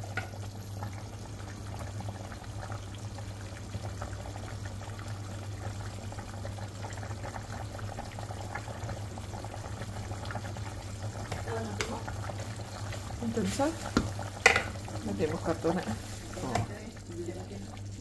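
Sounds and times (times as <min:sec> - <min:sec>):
broth bubbling in a pot: 0:00.0 - 0:18.0
low steady hum: 0:00.0 - 0:18.0.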